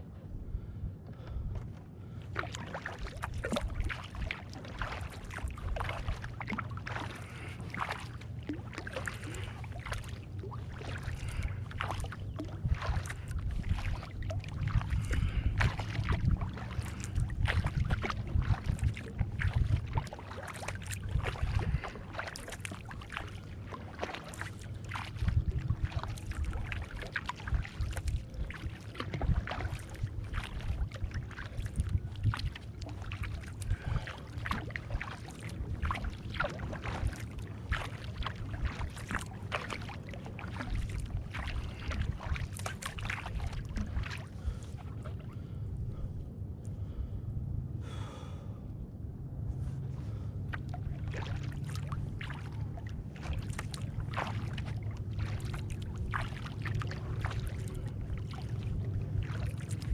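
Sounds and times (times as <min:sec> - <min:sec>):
low rumble: 0:00.0 - 0:59.9
paddle splashing in water: 0:01.1 - 0:46.1, 0:49.6 - 0:59.9.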